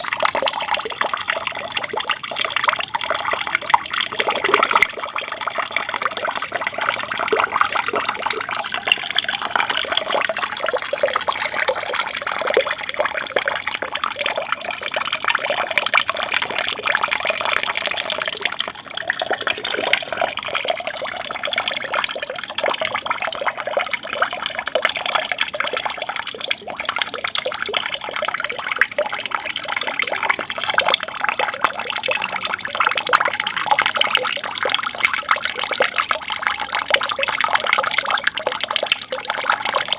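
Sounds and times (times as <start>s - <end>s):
small waterfall splashing and trickling: 0.0s - 39.9s.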